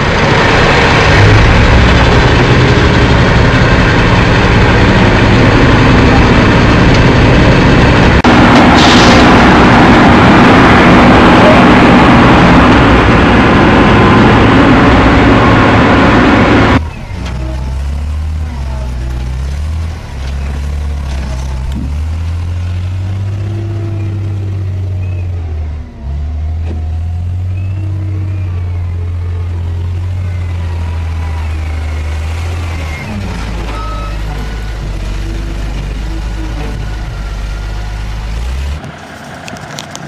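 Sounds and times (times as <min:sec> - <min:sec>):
diesel loader engine droning: 0:00.0 - 0:40.0
wind and road noise: 0:00.0 - 0:40.0.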